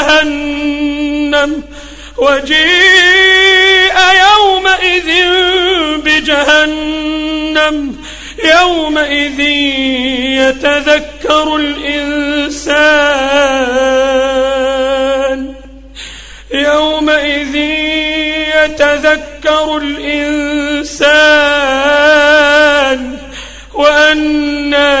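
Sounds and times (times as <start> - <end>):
man chanting: 0.0 - 15.9, 16.5 - 25.0.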